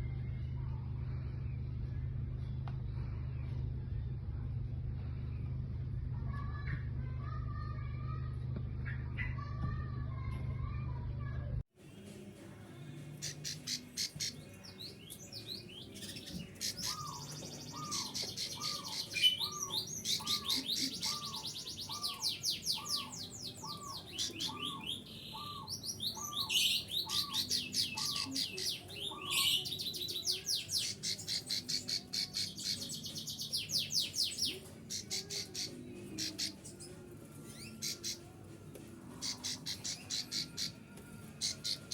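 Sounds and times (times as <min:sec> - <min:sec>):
songbird chirping and trilling: 0:06.2 - 0:41.9.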